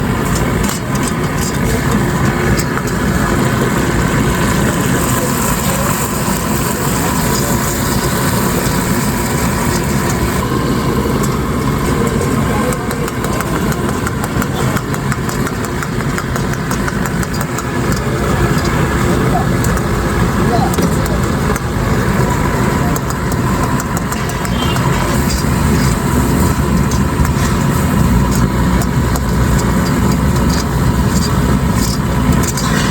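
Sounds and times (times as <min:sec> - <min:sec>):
clicks and clatter: 0:00.0 - 0:10.6, 0:11.2 - 0:19.9, 0:22.4 - 0:32.9
motorcycle engine running: 0:00.0 - 0:32.9.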